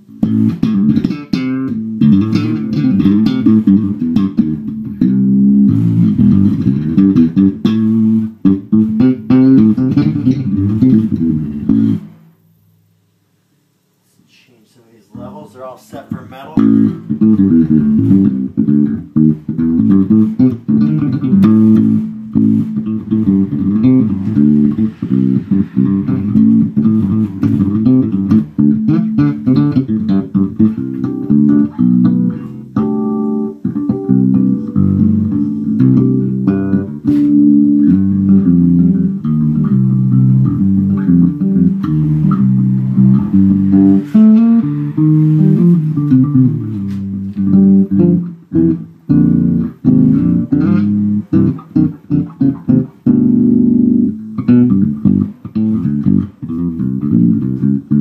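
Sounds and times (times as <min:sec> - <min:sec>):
electric bass guitar funk line: 0:00.0 - 0:12.4, 0:16.1 - 0:58.0.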